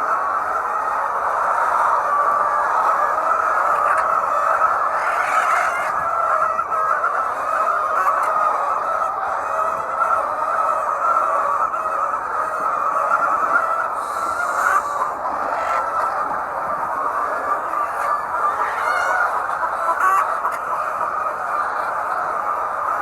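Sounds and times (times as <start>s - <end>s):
flock of hens calling: 0.0s - 23.0s.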